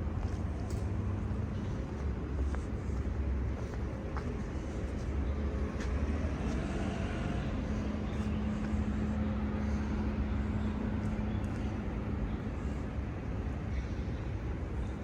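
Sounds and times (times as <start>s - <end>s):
engine hum: 0.0s - 15.0s
passing vehicles rumble: 0.0s - 15.0s.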